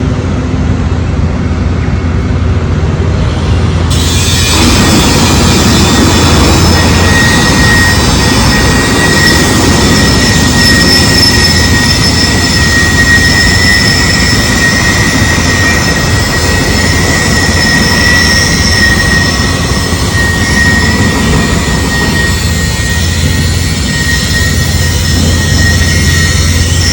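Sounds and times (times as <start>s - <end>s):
construction machinery roaring: 0.0s - 26.9s.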